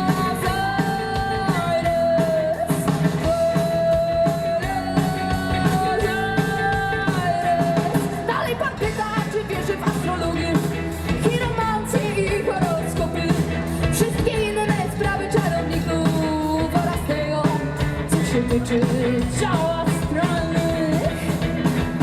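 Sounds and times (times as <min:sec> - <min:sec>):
live rock band: 0:00.0 - 0:22.0
person singing: 0:00.0 - 0:22.0
steady drumbeat: 0:00.0 - 0:22.0.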